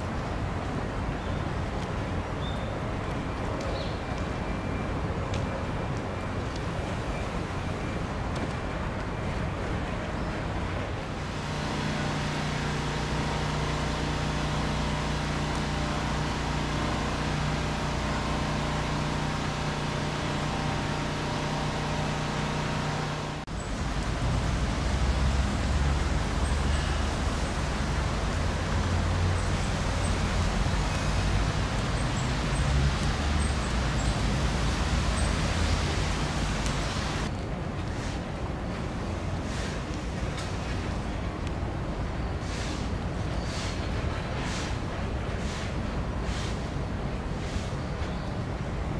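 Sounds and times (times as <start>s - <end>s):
city traffic: 0.0s - 48.9s
steady mechanical hum: 5.6s - 48.9s.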